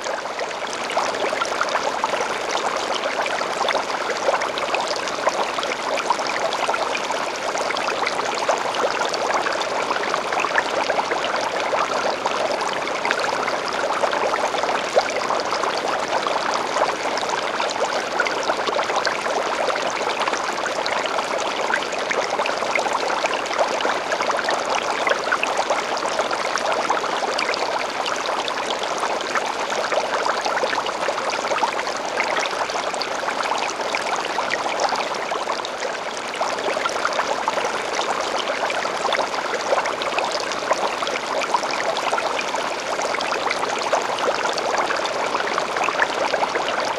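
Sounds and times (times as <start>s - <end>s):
aquarium water trickling and splashing: 0.0s - 46.9s.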